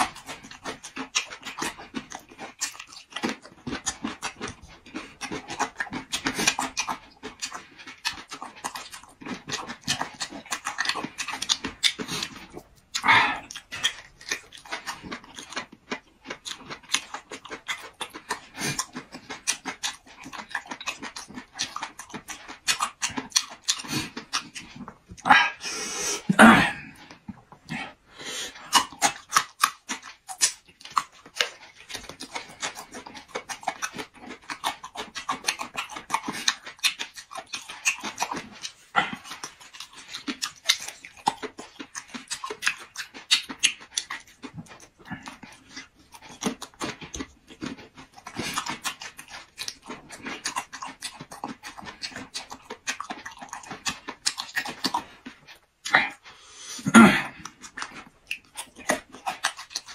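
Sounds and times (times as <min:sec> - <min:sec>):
close-up chewing: 0:00.0 - 0:59.9.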